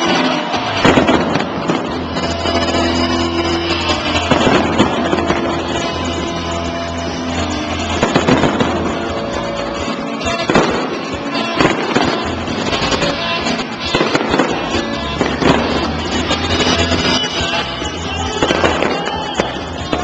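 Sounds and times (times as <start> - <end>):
fireworks bursting: 0.0 - 20.0
music: 0.0 - 20.0.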